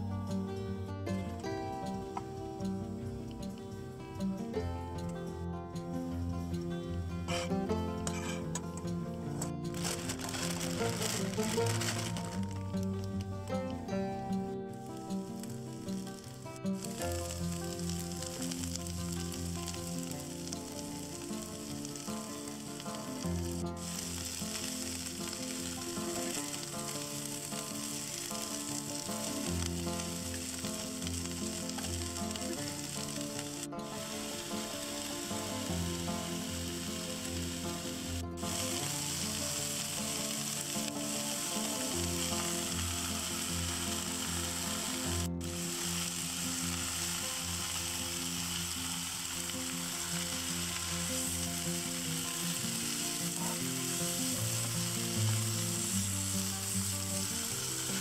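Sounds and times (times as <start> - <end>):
background music: 0.0 - 58.0
food sizzling in a frying pan: 7.3 - 8.6, 9.6 - 13.3, 14.7 - 58.0.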